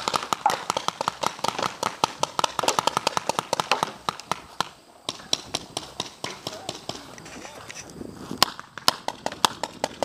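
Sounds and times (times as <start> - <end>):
paintball markers firing: 0.0 - 7.8, 8.4 - 10.0.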